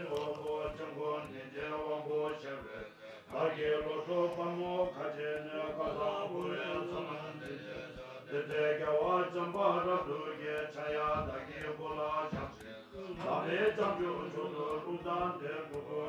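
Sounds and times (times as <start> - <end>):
faint clicks: 0.0 - 16.0
men chanting: 0.0 - 16.0.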